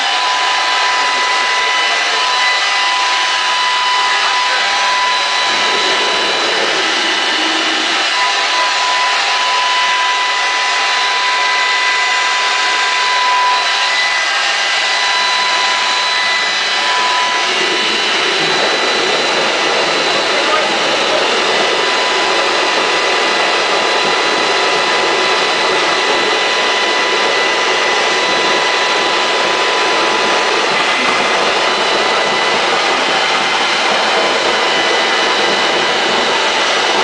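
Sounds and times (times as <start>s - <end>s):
ramjet rushing roar: 0.0s - 37.0s
steady high whine: 0.0s - 37.0s.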